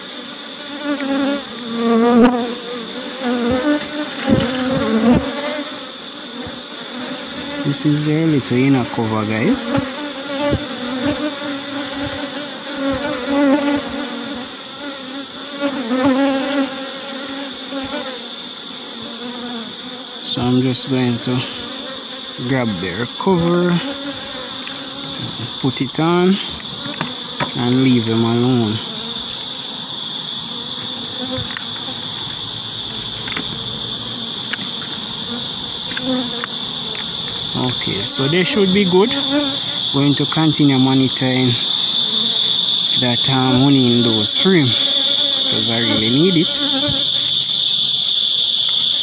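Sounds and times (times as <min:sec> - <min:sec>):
bees buzzing: 0:00.0 - 0:49.0
shrill insect chorus: 0:00.0 - 0:49.0.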